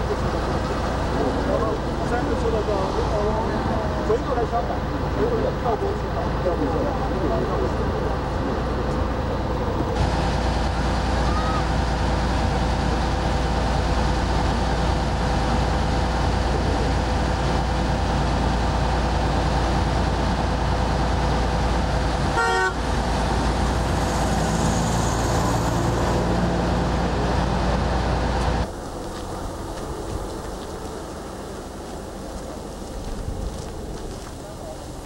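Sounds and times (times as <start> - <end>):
road vehicle rumble: 0.0 - 35.0.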